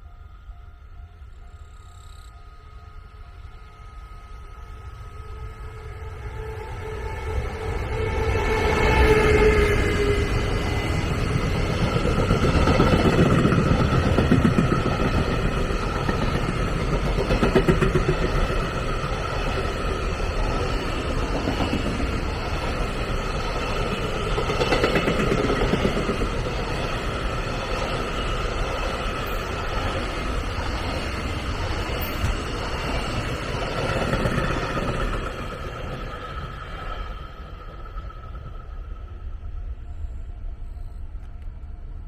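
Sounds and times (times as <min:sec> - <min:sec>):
train wheels rumbling on rails: 0:04.4 - 0:42.0.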